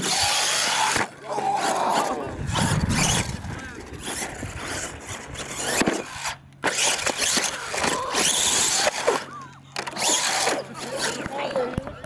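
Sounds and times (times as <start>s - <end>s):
rc truck motor whining: 0.0s - 11.8s.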